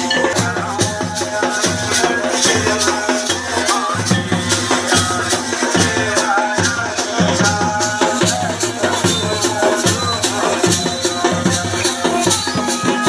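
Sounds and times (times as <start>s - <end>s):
folk song music: 0.0s - 13.0s
shaker and drum beat: 0.0s - 13.0s.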